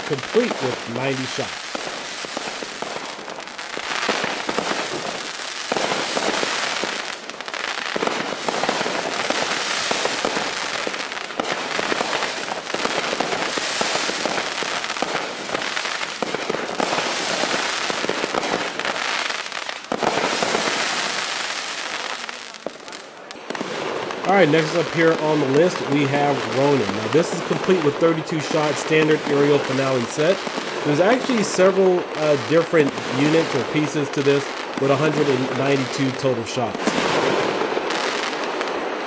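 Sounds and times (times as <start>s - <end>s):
fireworks shots and crackling: 0.0s - 39.0s.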